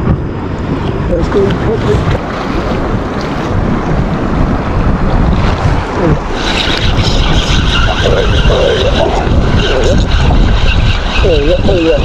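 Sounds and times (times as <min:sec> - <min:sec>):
waves washing against rocks: 0:00.0 - 0:12.0
wind buffeting microphone: 0:00.0 - 0:12.0.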